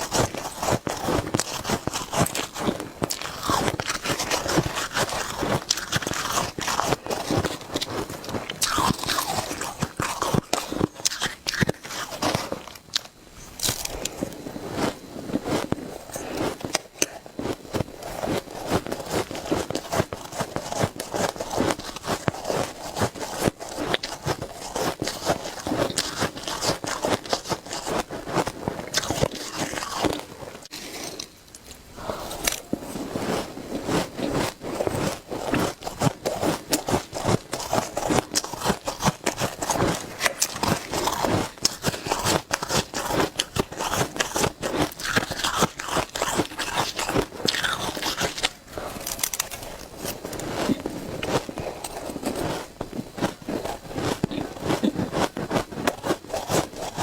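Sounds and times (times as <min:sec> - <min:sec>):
shaved ice crunching: 0:00.0 - 0:13.0, 0:18.1 - 0:31.3, 0:32.4 - 0:57.0.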